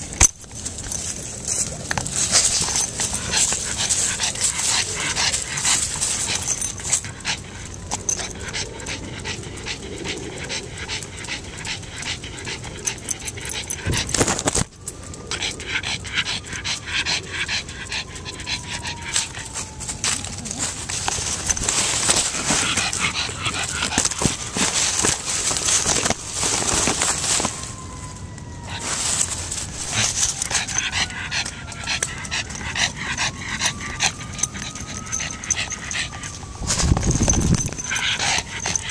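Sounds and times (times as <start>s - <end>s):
dog panting: 2.0s - 14.5s, 15.2s - 27.7s, 28.6s - 38.9s.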